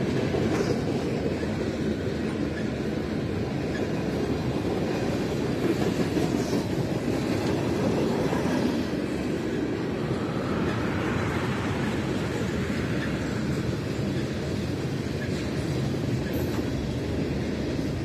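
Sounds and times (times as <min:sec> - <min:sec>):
train wheels rolling on rail: 0:00.0 - 0:18.0.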